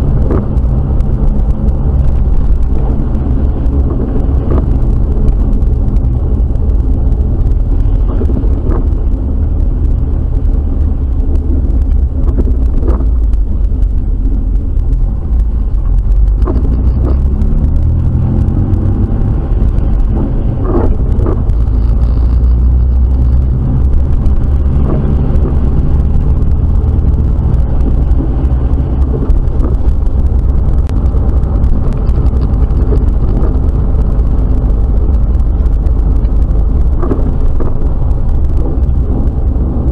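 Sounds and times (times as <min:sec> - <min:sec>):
engine and road rumble in car: 0:00.0 - 0:39.9.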